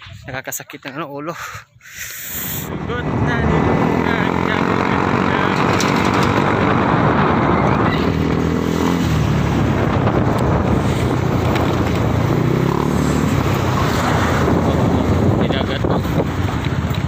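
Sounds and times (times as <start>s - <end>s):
motorcycle engine riding: 2.3s - 17.0s.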